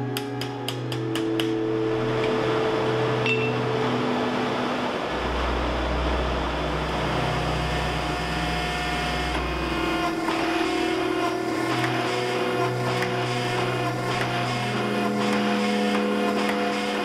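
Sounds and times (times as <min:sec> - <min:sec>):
deep hum: 0:00.0 - 0:17.0
forging press machine drone: 0:00.0 - 0:17.0.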